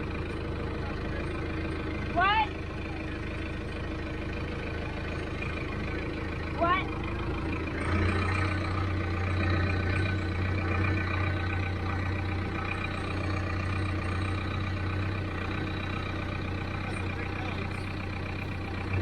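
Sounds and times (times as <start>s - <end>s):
farm vehicle engine humming: 0.0s - 19.0s.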